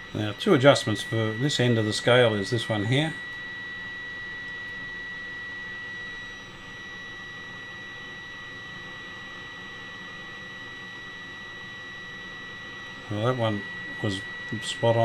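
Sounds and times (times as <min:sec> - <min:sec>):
high test tone from radio speaker: 0:00.0 - 0:15.0.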